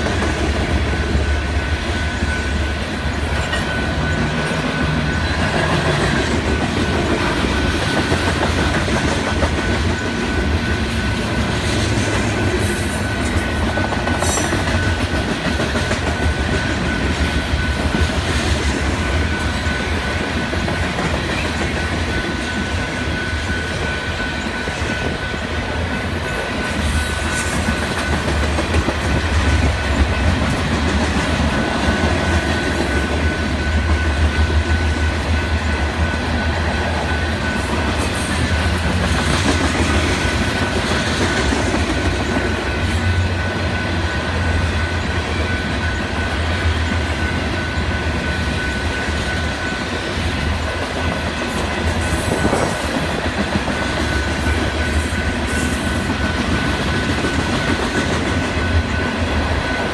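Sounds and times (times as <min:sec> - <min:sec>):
freight train rumbling past: 0:00.0 - 0:59.9
train cars clanking: 0:00.0 - 0:59.9.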